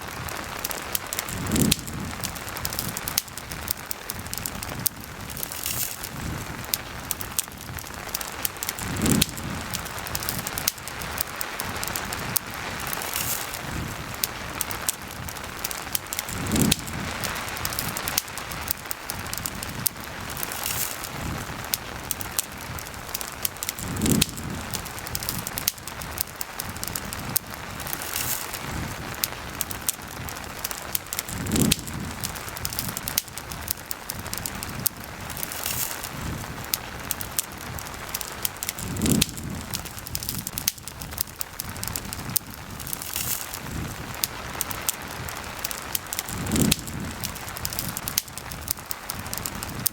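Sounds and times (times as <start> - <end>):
campfire crackling: 0.0 - 49.9
steady rain: 0.0 - 49.9.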